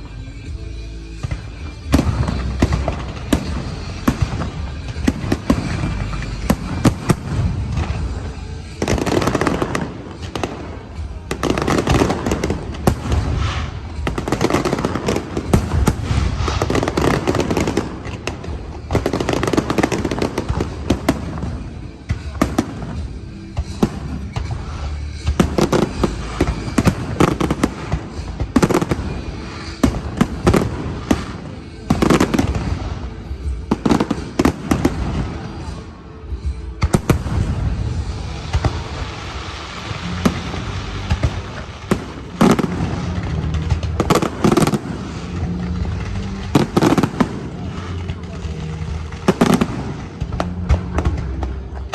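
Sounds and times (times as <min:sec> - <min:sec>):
fireworks bursts bangs and crackles: 0:00.0 - 0:51.9
music playing: 0:00.0 - 0:51.9.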